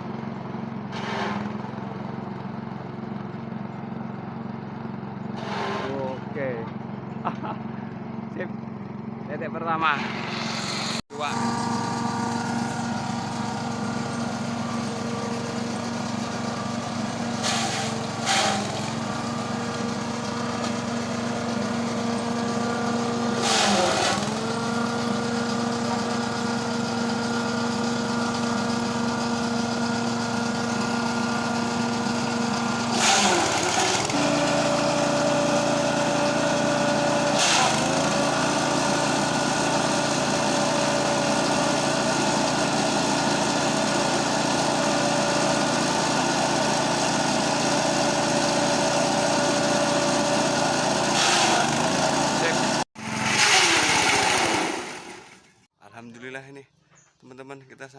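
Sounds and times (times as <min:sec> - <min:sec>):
vehicle engine running: 0:00.0 - 0:55.6.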